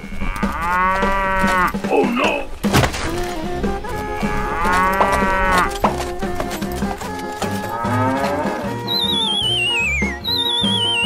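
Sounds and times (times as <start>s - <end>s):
cow mooing: 0.0s - 2.5s, 3.2s - 9.6s
background music: 0.0s - 11.0s.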